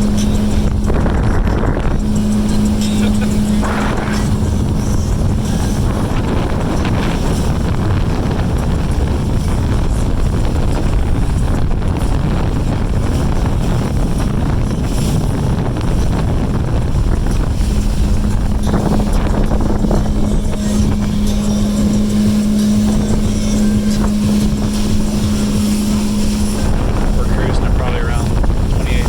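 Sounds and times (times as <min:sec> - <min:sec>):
motorboat engine hum: 0:00.0 - 0:29.0
wind rumbling on microphone: 0:00.0 - 0:29.0.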